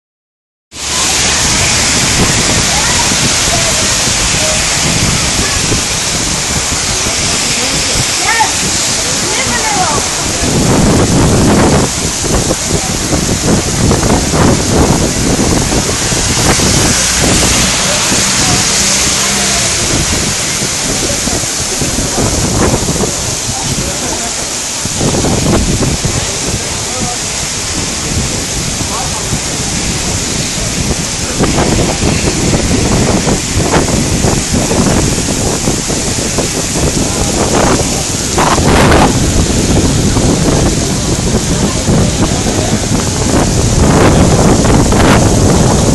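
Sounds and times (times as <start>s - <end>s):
heavy rain pouring: 0.7s - 45.9s
wind buffeting microphone: 0.7s - 45.9s.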